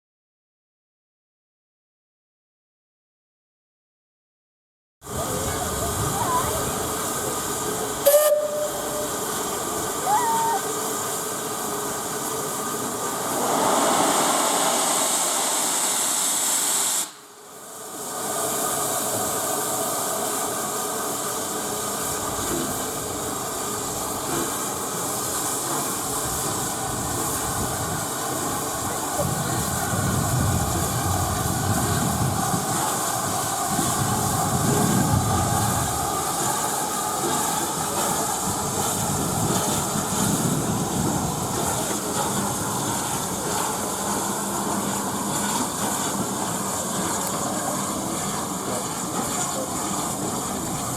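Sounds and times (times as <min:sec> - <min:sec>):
steam locomotive hissing: 0:05.1 - 0:50.9.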